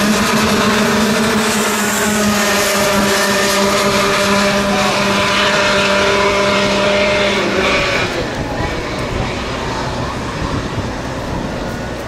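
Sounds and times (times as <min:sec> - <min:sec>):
engine high drone: 0:00.0 - 0:12.0
kart engines revving high: 0:00.0 - 0:12.0.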